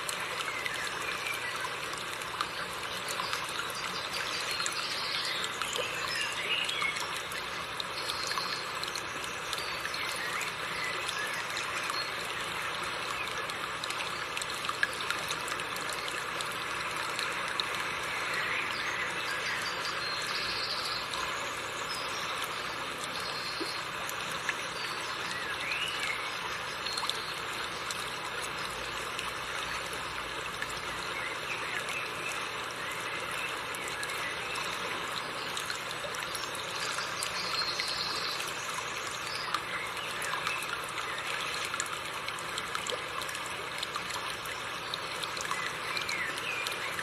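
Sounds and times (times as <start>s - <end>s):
river water running over rocks: 0.0s - 47.0s.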